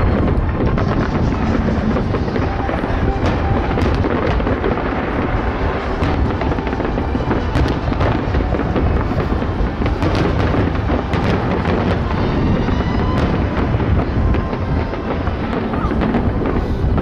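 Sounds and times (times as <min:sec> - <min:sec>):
firework whistles: 0:00.0 - 0:17.0
fireworks bangs and crackles: 0:00.0 - 0:17.0.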